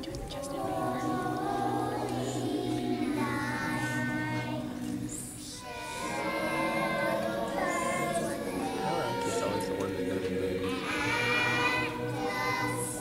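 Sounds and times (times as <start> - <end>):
young children singing: 0.0 - 13.0.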